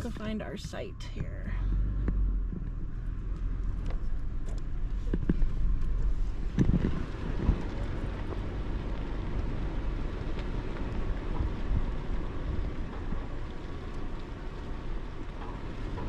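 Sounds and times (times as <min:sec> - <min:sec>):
vehicle low rumble: 0:00.0 - 0:16.0.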